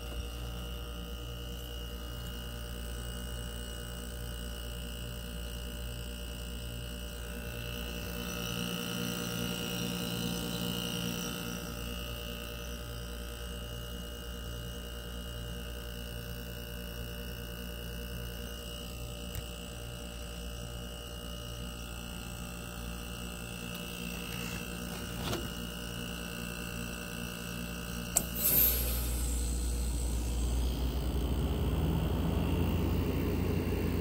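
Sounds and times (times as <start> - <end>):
heat pump humming: 0.0 - 14.8, 15.6 - 34.0.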